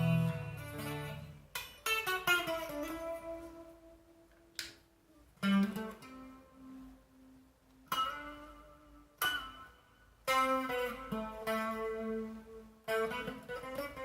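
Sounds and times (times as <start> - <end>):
electric guitar with rotary effect: 0.0 - 14.0.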